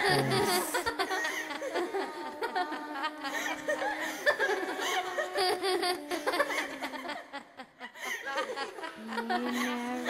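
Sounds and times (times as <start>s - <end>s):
many people laughing: 0.0s - 10.0s.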